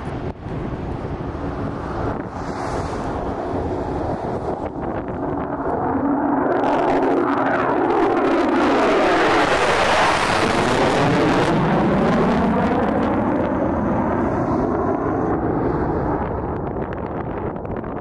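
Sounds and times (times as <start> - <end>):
fighter jet engine roar: 0.0 - 18.0.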